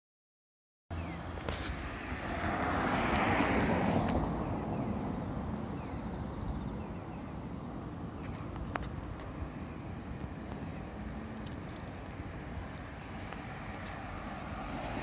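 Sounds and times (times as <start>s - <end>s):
low traffic rumble: 0.9s - 15.0s
car passing: 1.0s - 8.3s, 9.4s - 15.0s.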